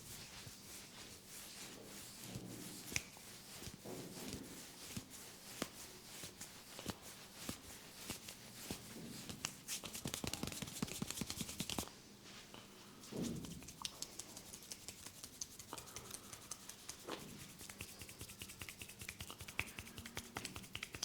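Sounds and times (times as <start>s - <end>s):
fingers scratching through hair: 0.1s - 11.9s, 13.4s - 21.0s.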